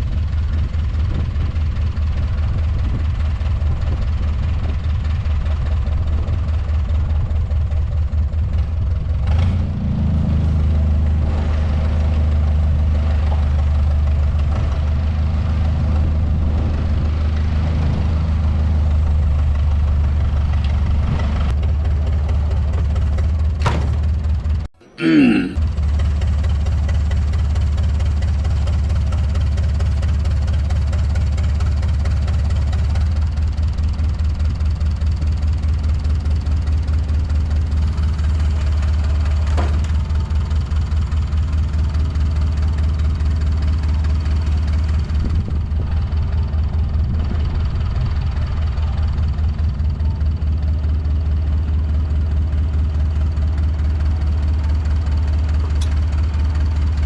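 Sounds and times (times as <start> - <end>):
skid steer engine running: 0.0 - 24.7, 25.6 - 57.0.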